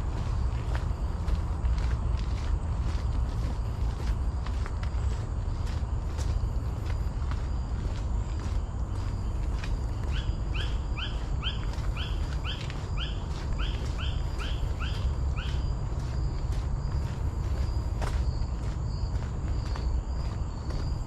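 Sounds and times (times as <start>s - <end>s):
footsteps on a trail: 0.0s - 21.0s.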